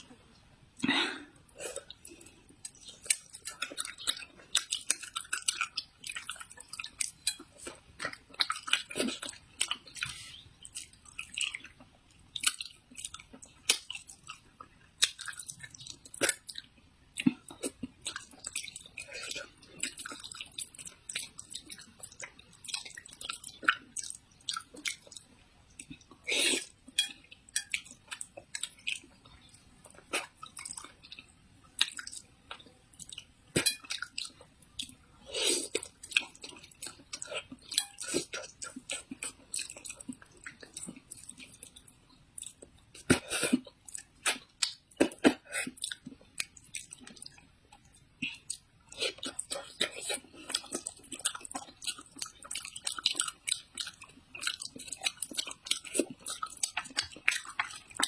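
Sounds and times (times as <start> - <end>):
person chewing and eating: 0.0 - 58.0.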